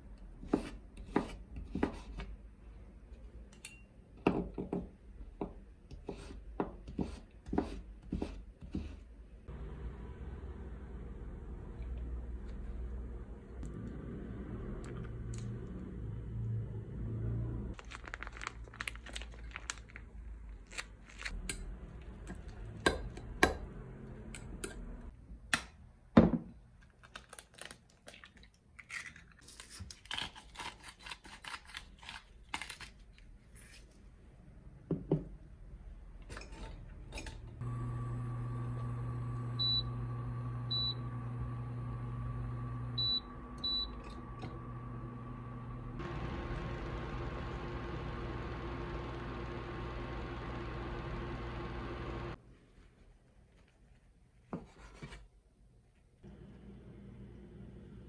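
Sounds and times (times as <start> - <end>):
cooktop electric hum: 0.0 - 26.3, 34.4 - 52.6, 54.6 - 58.0.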